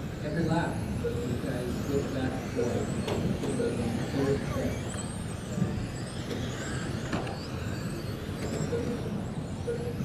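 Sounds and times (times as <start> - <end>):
rc car motors whining: 0.0 - 10.0.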